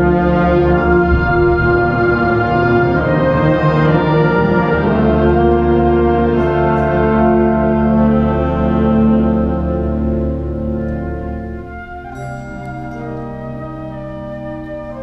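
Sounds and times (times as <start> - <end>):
wind band playing sustained chords: 0.0 - 15.0.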